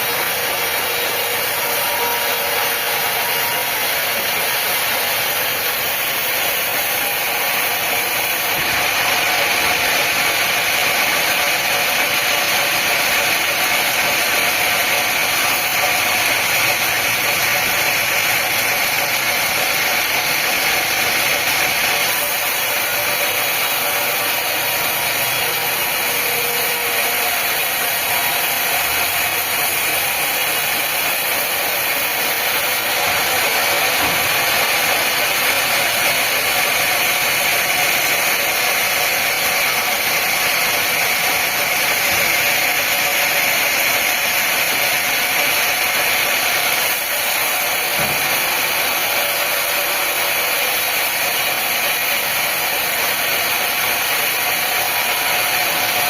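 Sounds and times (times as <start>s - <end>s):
power tool whirring: 0.0s - 56.0s.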